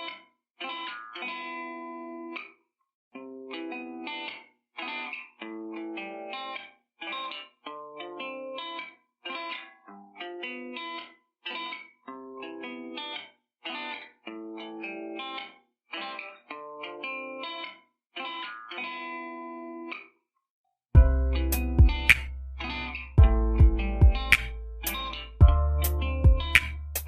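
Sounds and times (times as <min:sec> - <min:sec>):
plucked guitar music: 0:00.0 - 0:02.6, 0:03.2 - 0:20.1, 0:21.0 - 0:27.0.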